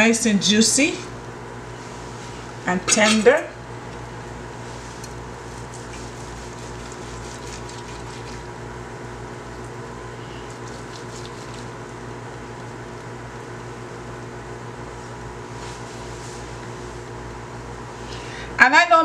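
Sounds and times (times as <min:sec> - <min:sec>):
steady room hum with tones: 0:00.0 - 0:19.0.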